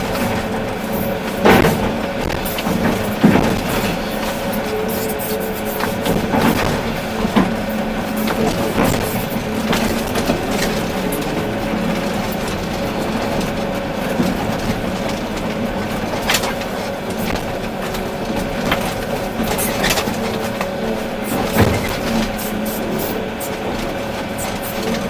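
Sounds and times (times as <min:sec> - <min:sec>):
excavator diesel engine humming: 0:00.0 - 0:25.0
machine knocks and clanks: 0:00.0 - 0:25.0.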